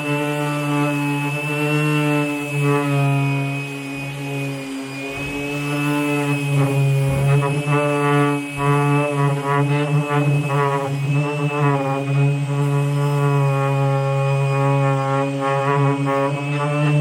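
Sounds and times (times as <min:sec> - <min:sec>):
electric sander drone: 0:00.0 - 0:17.0.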